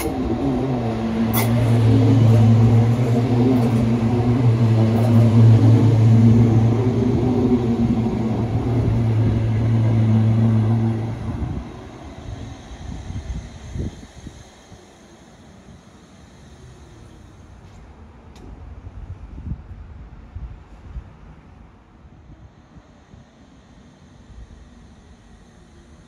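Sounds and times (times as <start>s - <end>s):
electric railcar hum: 0.0s - 26.0s
train wheels rumbling on rails: 0.0s - 26.0s.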